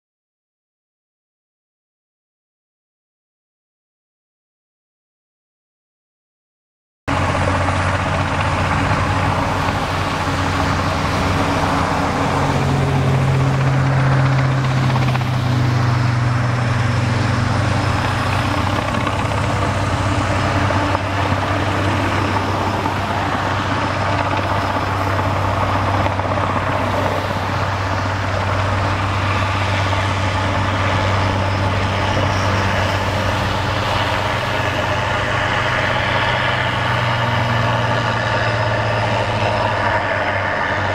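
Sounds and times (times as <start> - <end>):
helicopter engine hum: 7.1 - 40.9
machinery: 7.1 - 40.9
road traffic: 7.1 - 40.9.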